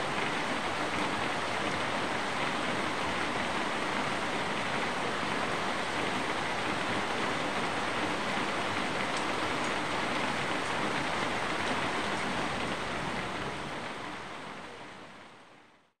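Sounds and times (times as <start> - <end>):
rain falling: 0.0 - 15.8.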